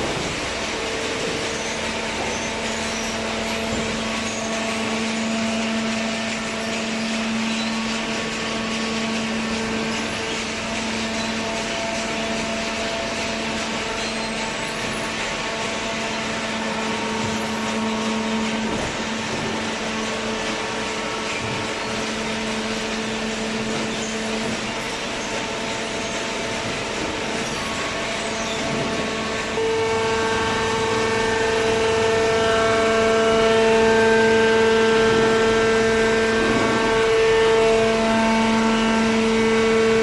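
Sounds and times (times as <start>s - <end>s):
baler machine humming: 0.0s - 40.0s.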